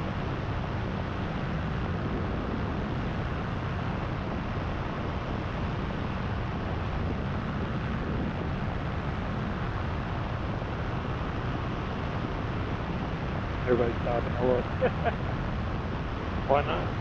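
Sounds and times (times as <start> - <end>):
paramotor engine and propeller: 0.0 - 17.0
wind rushing over microphone: 0.0 - 17.0.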